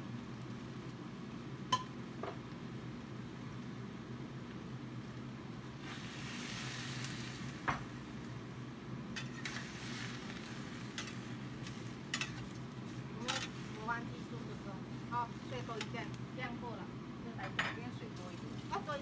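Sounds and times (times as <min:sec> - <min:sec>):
food sizzling in a wok: 0:00.0 - 0:19.0
steady low hum: 0:00.0 - 0:19.0.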